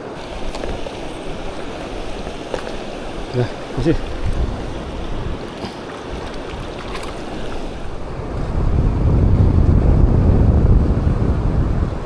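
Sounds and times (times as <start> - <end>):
mountain stream rushing: 0.0 - 12.0
wind buffeting microphone: 0.0 - 12.0.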